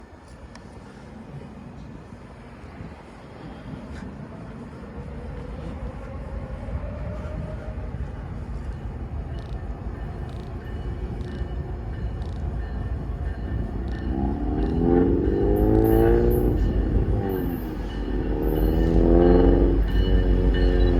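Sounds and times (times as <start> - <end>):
diesel locomotive rumble: 0.0 - 20.9.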